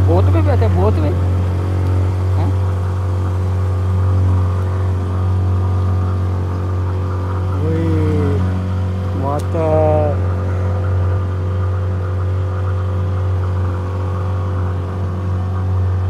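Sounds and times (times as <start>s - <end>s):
boat motor droning: 0.0s - 16.0s.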